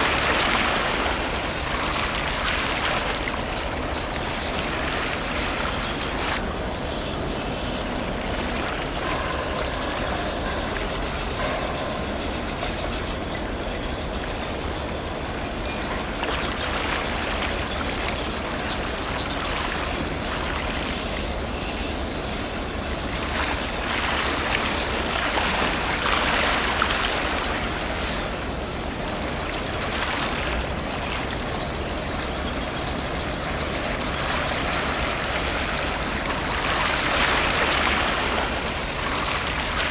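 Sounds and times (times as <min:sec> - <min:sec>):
water rushing from wake: 0:00.0 - 0:39.9.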